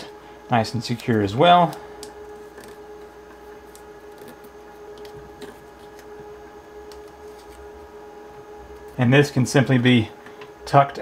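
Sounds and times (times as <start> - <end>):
low electrical hum: 0.0 - 11.0
electrical tape crackling: 0.5 - 10.4.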